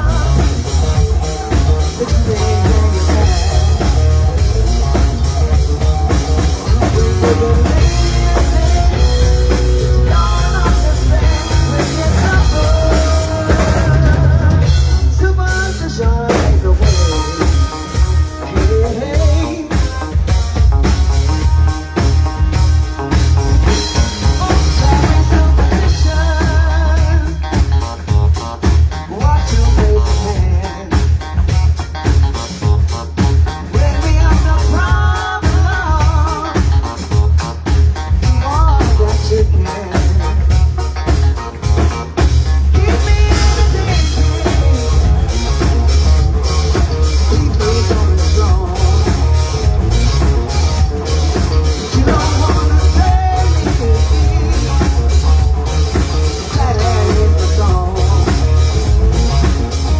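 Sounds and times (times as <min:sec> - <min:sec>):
band playing a song: 0:00.0 - 0:59.9
drum kit beat: 0:00.0 - 0:59.9.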